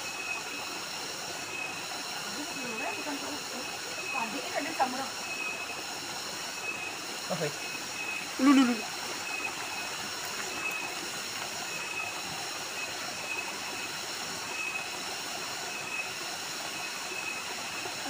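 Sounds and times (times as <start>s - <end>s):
small waterfall splashing: 0.0s - 18.0s.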